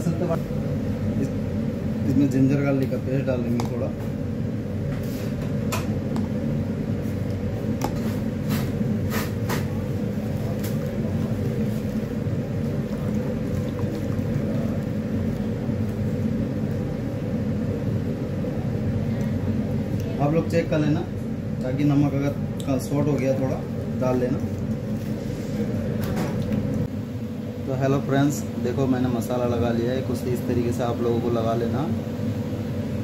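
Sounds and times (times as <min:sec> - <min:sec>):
machine hum and rumble: 0:00.0 - 0:33.0.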